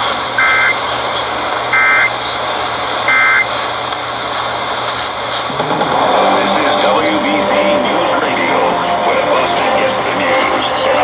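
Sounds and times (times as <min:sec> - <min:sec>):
broadcast hiss: 0:00.0 - 0:09.2.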